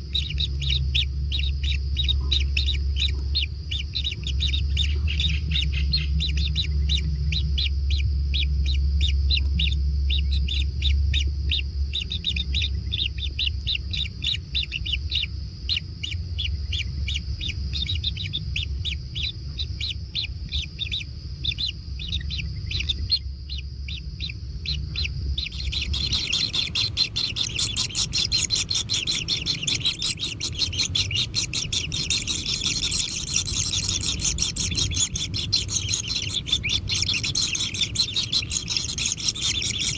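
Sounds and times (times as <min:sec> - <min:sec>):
chicks chirping: 0:00.0 - 0:39.9
low hum: 0:00.0 - 0:39.9.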